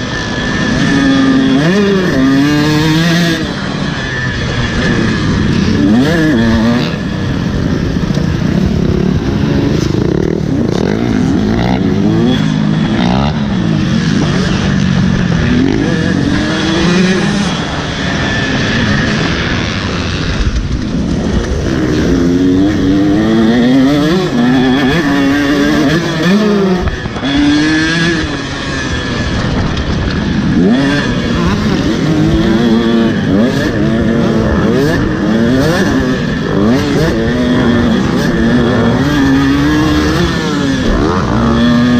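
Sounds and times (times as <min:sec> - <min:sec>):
dirt bike engine revving: 0:00.0 - 0:41.9
wind rumble on microphone: 0:00.0 - 0:41.9.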